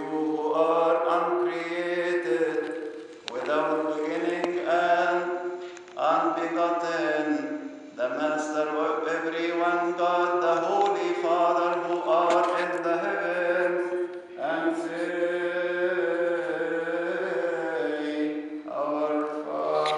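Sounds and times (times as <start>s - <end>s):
man chanting: 0.0s - 19.9s.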